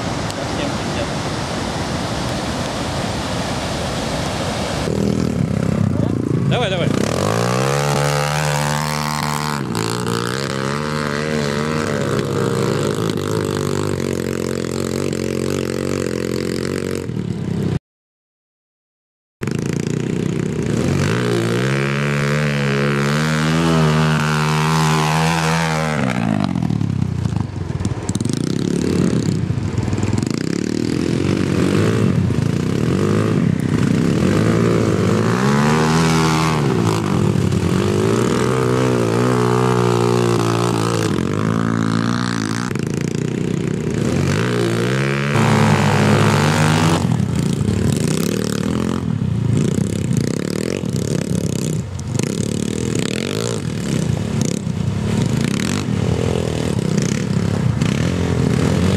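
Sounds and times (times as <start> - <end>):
motorcycle engines revving: 0.0 - 17.8, 19.4 - 58.9.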